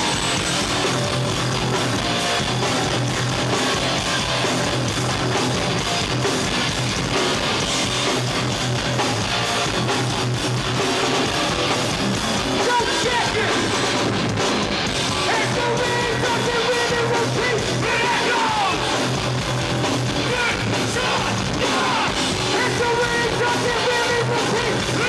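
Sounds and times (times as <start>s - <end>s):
hardcore band playing live: 0.0s - 25.0s.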